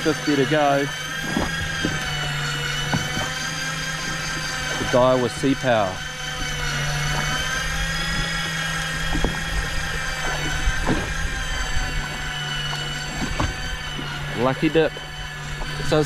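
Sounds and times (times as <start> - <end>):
electric fishing reel whine: 0.0 - 16.0.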